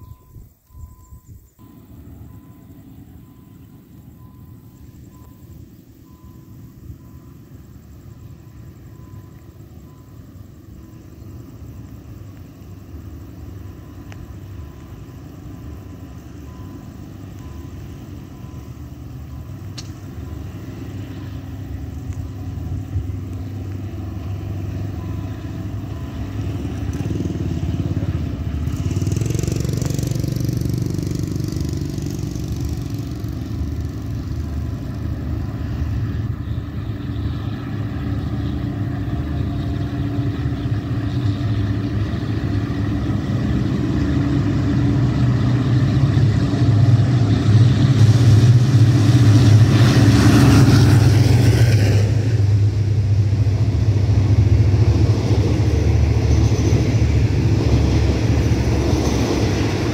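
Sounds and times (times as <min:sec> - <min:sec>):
locomotive engine drone: 0:00.0 - 0:59.9.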